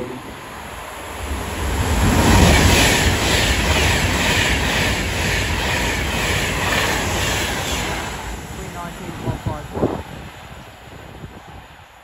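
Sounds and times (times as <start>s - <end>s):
train rushing past: 0.0s - 12.0s.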